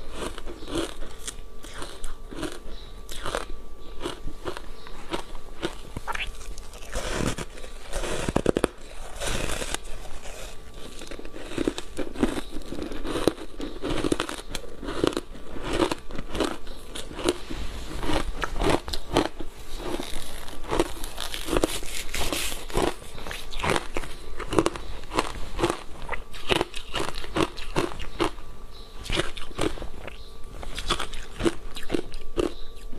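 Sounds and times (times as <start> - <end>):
ice crunching while chewed: 0.0 - 28.4, 29.0 - 32.9.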